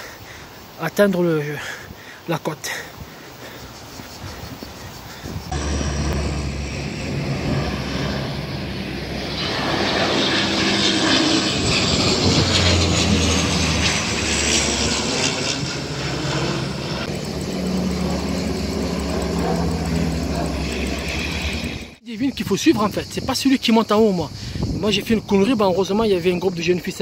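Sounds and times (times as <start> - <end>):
propeller planes droning overhead: 0.0 - 27.0.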